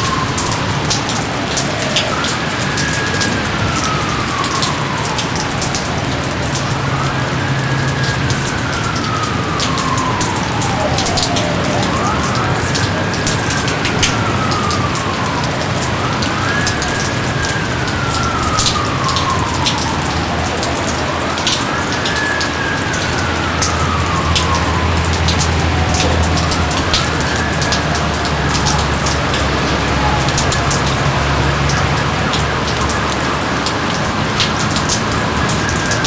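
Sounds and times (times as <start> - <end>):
heavy rain: 0.0 - 36.0
wailing siren tone: 0.0 - 36.0.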